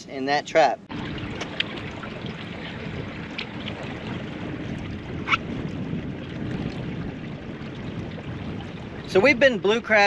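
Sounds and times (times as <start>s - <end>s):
low wind: 0.0s - 10.0s
water noise around boat: 0.0s - 10.0s.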